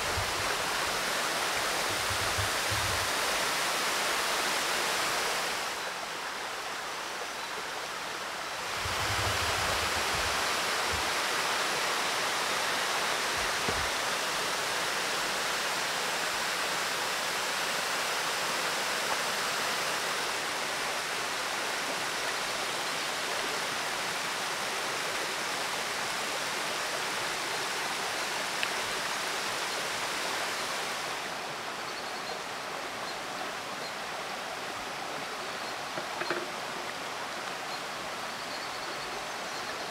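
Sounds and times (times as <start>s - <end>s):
water rushing from waterfall: 0.0s - 39.9s.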